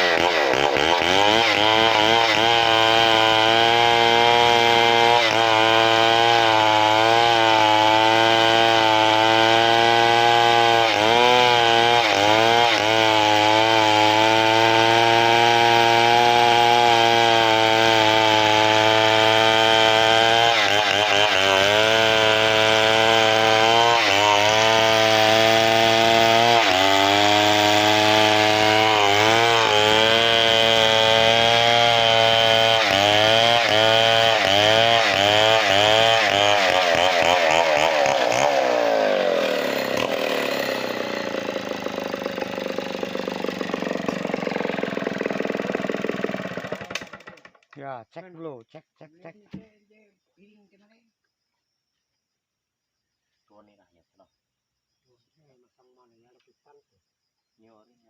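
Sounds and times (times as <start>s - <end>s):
chainsaw cutting a log: 0.0s - 47.7s.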